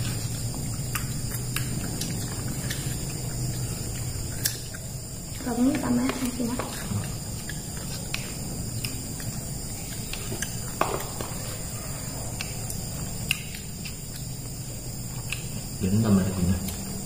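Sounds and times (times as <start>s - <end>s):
high insect chirring: 0.0s - 17.0s.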